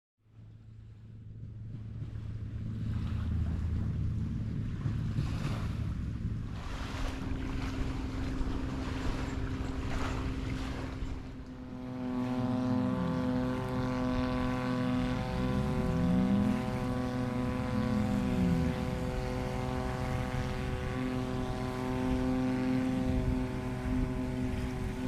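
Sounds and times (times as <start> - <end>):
motorboat engine: 0.2 - 25.0
waves: 0.2 - 25.0
wind: 0.2 - 25.0.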